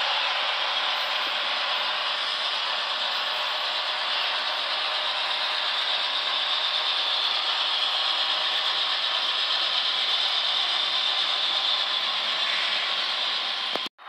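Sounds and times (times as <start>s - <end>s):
model train wheels rolling on rails: 0.0s - 13.9s.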